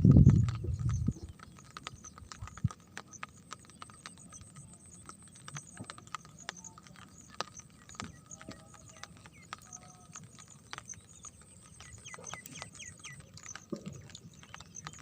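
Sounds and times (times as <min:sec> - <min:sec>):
raindrops tapping on hard surface: 0:00.0 - 0:15.0.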